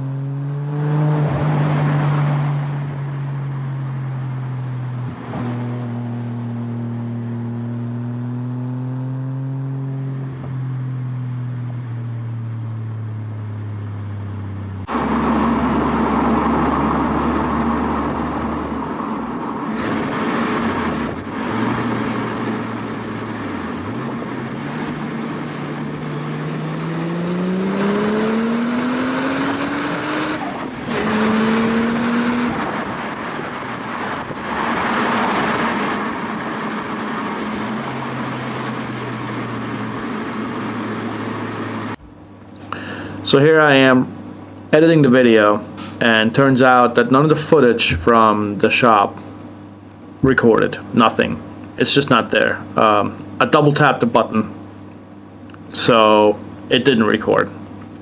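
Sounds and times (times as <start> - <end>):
car engine and exhaust driving: 0.0 - 58.0.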